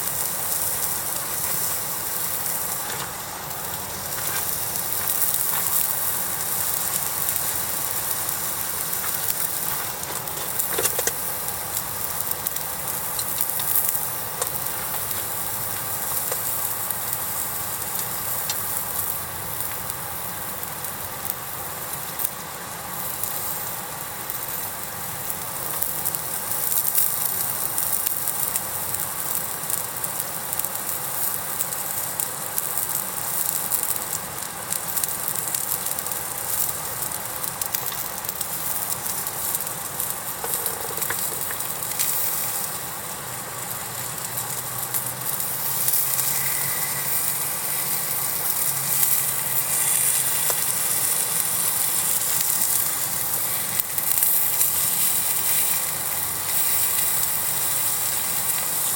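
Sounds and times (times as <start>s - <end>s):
crackles and pops: 0.0s - 58.9s
food sizzling on griddle: 0.0s - 58.9s.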